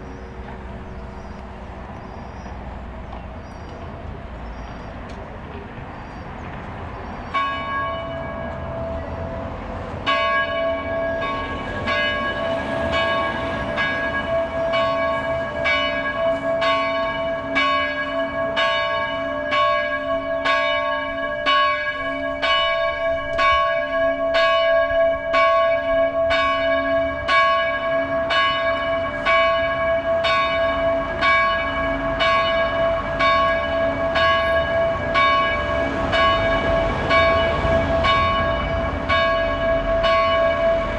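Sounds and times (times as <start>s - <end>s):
church bells ringing: 7.2s - 40.9s.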